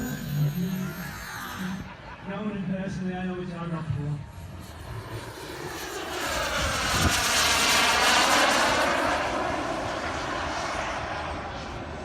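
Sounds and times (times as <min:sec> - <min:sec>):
model jet turbine whine: 0:00.0 - 0:12.0.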